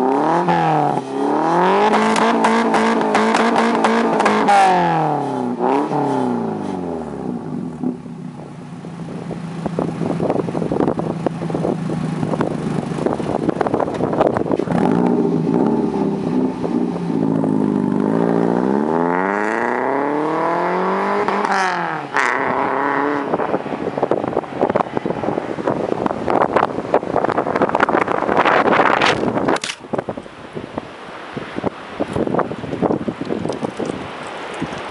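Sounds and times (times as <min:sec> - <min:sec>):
car engine through exhaust: 0:00.0 - 0:29.5.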